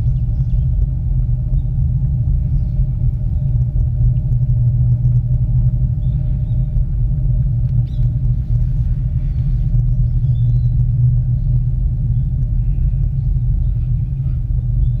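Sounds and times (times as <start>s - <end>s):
cable car cabin rumbling: 0.0s - 15.0s
faint steady hum: 0.0s - 15.0s.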